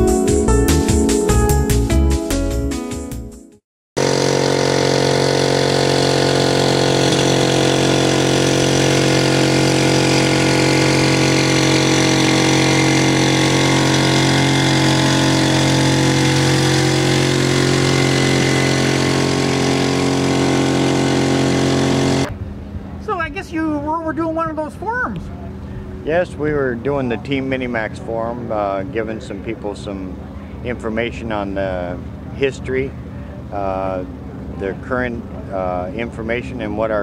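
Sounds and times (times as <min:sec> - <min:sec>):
light aircraft engine running: 0:04.0 - 0:37.0.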